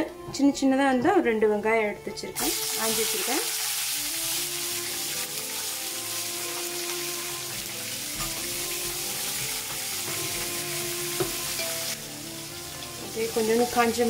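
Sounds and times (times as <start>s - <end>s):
soft background music: 0.0s - 14.0s
oil sizzling in a frying pan: 2.4s - 14.0s.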